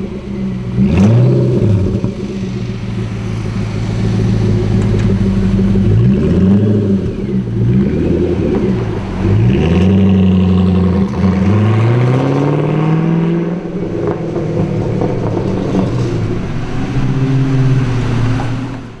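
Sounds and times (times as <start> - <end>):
car exhaust revving: 0.0 - 19.0.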